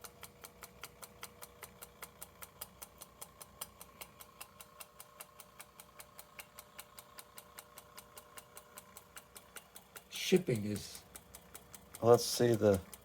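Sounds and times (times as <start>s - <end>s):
pocket watch ticking: 0.0s - 13.0s.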